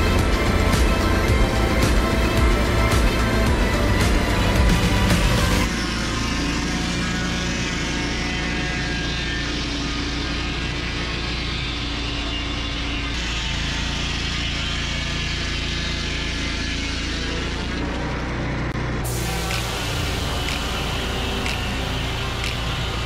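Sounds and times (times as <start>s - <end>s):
sawmill engine running under load: 0.0s - 23.0s.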